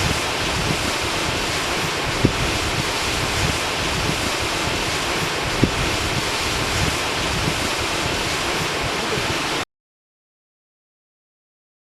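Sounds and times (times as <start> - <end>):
waterfall rushing: 0.0 - 9.6
wind buffeting microphone: 0.0 - 9.6.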